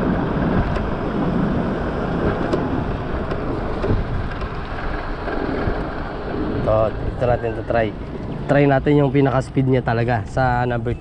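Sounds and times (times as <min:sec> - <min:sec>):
road rumble: 0:00.0 - 0:11.0
wind over microphone: 0:00.0 - 0:11.0.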